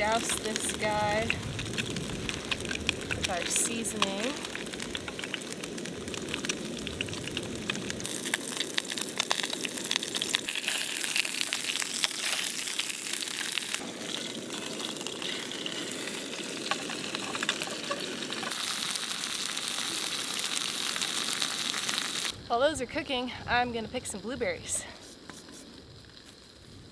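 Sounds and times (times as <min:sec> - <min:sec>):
fish frying in oil: 0:00.0 - 0:26.9.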